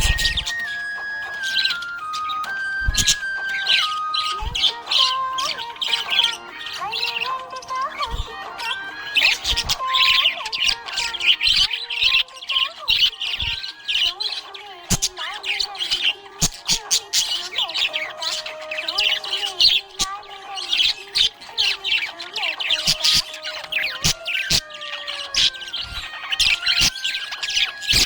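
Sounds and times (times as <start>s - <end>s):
budgerigar chirping and warbling: 0.0s - 28.0s.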